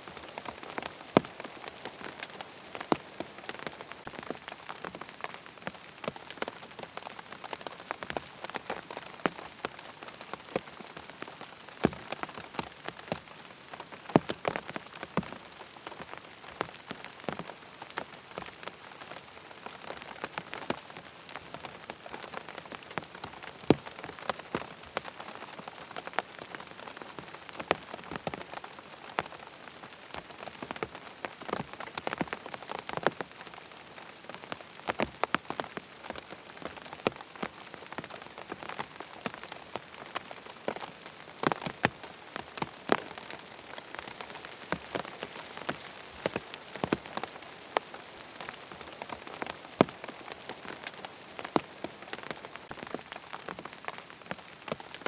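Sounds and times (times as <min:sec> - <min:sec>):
raindrops striking close by: 0:00.0 - 0:55.0
steady rain hiss: 0:00.0 - 0:55.0.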